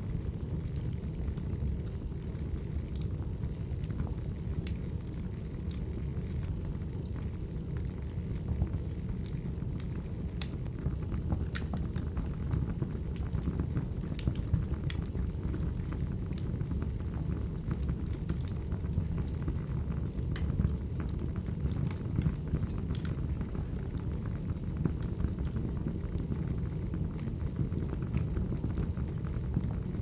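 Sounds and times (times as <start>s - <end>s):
wood fire burning: 0.0s - 30.0s
logs crackling and popping: 0.1s - 30.0s.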